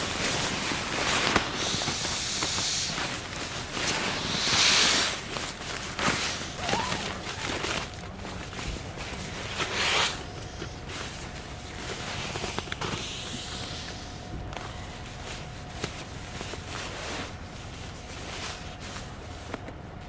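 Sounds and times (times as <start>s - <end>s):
nylon sack rustling and crinkling: 0.0s - 13.8s, 14.4s - 20.0s.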